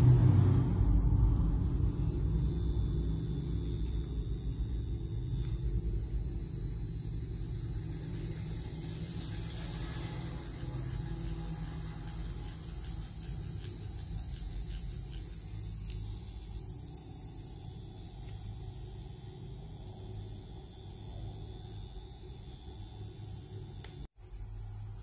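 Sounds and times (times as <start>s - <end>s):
machine pen humming: 0.0s - 25.0s.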